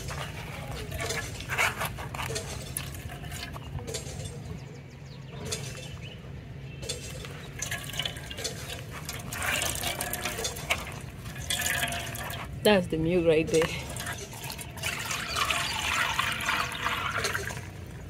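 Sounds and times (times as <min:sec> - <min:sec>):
liquid trickling into metal bowl: 0:00.0 - 0:04.2, 0:06.8 - 0:12.8, 0:13.4 - 0:18.0.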